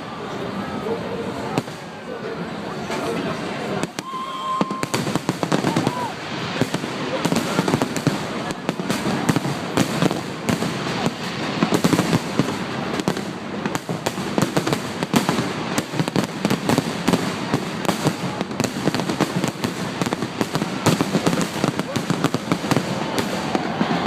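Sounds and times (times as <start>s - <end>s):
fireworks bangs and cracks: 1.3s - 24.0s.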